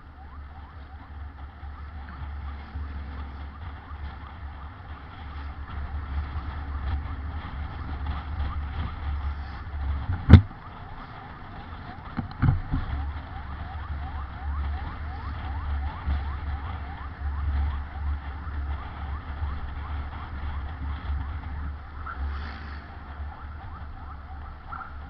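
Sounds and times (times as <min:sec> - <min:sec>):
ambulance siren yelping: 0:00.0 - 0:25.0
low vehicle rumble: 0:00.0 - 0:25.0.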